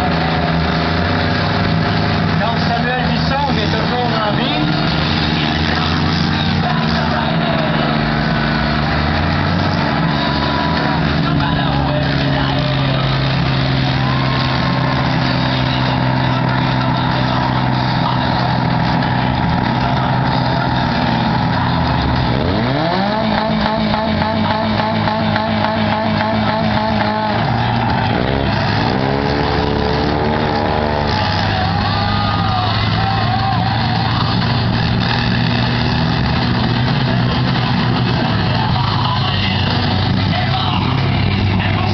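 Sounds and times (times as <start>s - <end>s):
car engine revving: 0.0s - 41.9s
car engines running: 0.0s - 41.9s.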